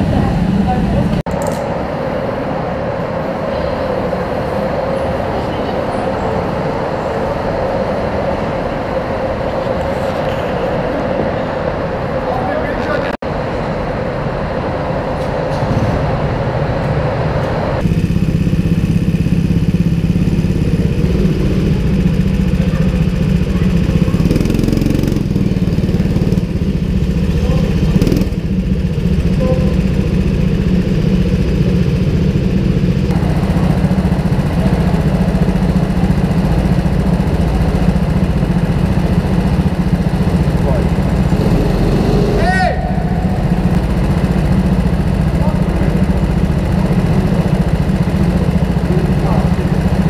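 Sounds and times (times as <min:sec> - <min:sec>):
go-kart engines idling: 0:00.0 - 0:50.0.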